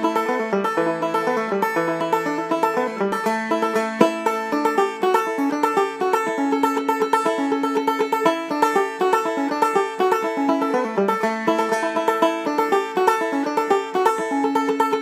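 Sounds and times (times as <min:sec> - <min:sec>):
banjo plucking: 0:00.0 - 0:15.0.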